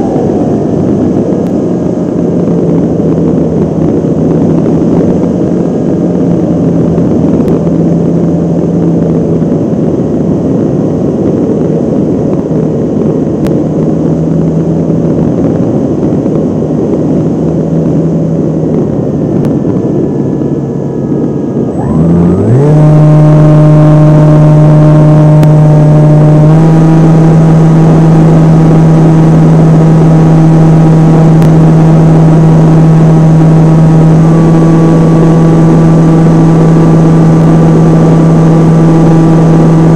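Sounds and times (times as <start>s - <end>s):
airflow noise: 0.0s - 39.9s
model airplane motor and propeller: 0.0s - 39.9s.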